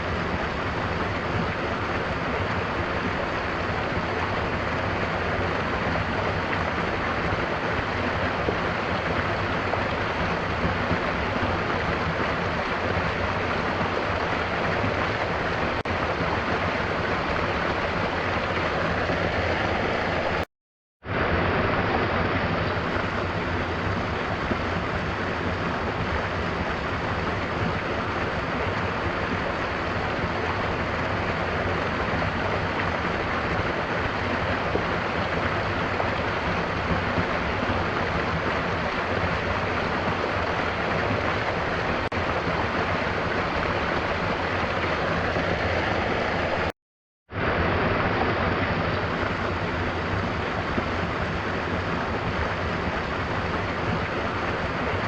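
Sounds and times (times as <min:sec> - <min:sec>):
waterfall rushing: 0:00.0 - 0:20.5, 0:21.1 - 0:46.7, 0:47.4 - 0:55.0
rain: 0:00.0 - 0:46.7, 0:47.3 - 0:55.0.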